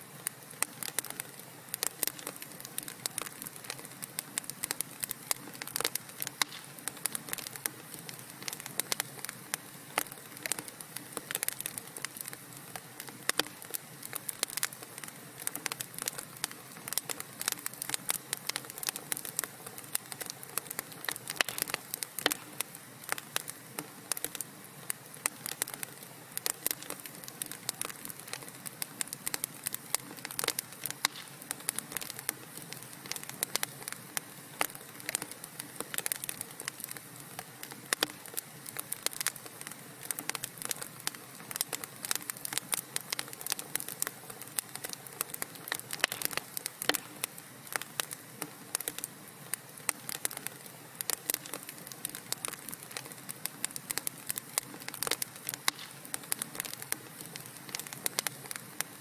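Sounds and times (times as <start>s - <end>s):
hiss of burning logs: 0.0s - 59.0s
wood fire crackling: 0.0s - 59.0s.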